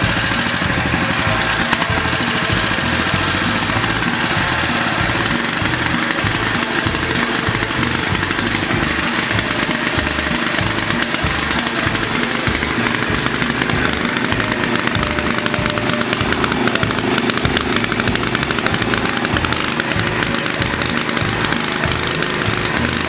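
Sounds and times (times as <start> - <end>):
single-cylinder engine running: 0.0 - 23.0.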